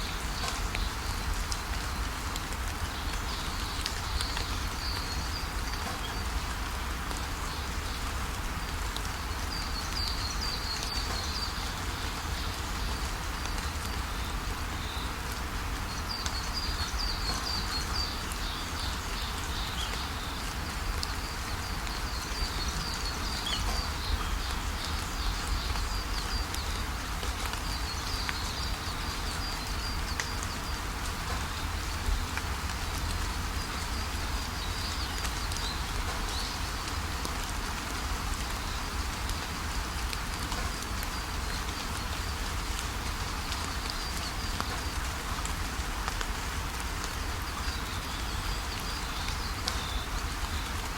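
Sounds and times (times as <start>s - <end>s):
small birds chirping: 0.0s - 39.6s, 47.1s - 50.9s
rain falling on leaves: 0.0s - 50.9s.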